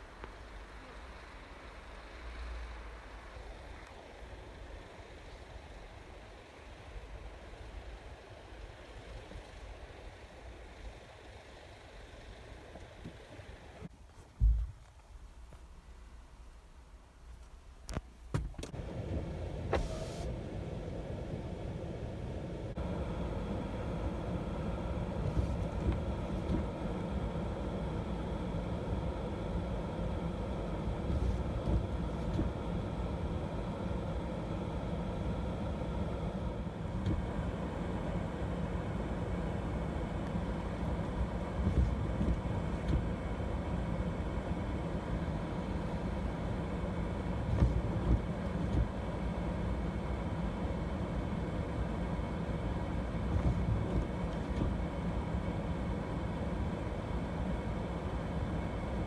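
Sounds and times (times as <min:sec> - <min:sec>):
vehicle engine idling hum: 0:00.0 - 0:59.0.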